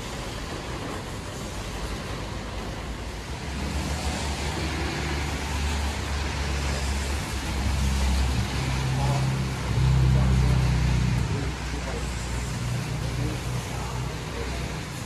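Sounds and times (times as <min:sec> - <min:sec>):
rain on wet ground: 0:00.0 - 0:15.0
vehicle engine rumble: 0:00.0 - 0:15.0.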